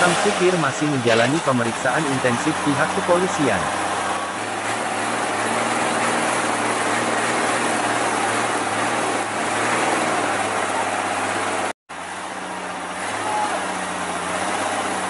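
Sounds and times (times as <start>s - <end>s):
noisy outdoor background: 0.0s - 15.0s
vehicle engine idling: 0.0s - 15.0s.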